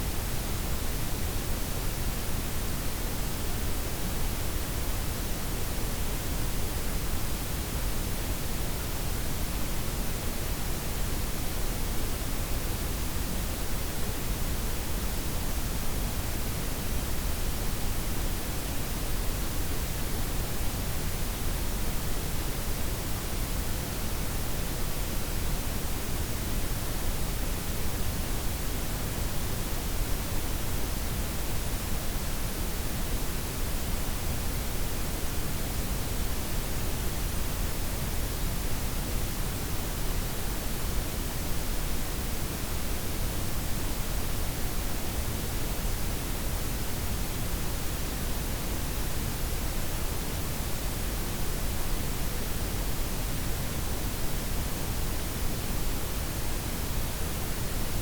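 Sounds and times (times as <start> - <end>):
steady noise hiss: 0.0 - 58.0.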